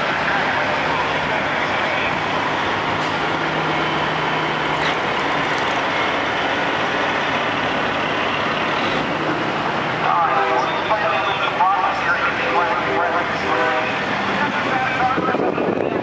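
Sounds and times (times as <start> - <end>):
truck diesel engines rumbling: 0.0 - 16.0.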